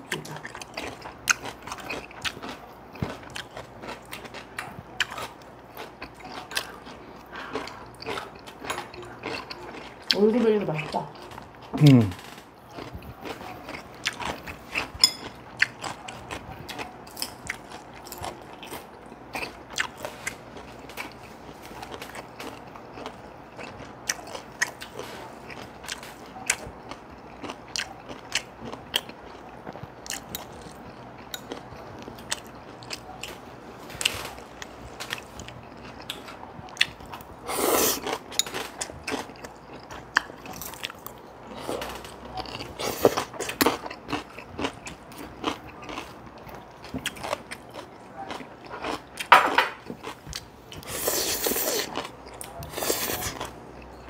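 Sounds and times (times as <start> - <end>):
chewing and crunching: 0.0 - 54.0.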